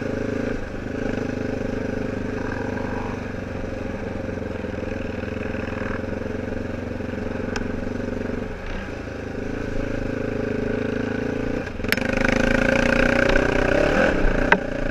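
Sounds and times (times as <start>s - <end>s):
off-road vehicle engine: 0.0s - 14.9s.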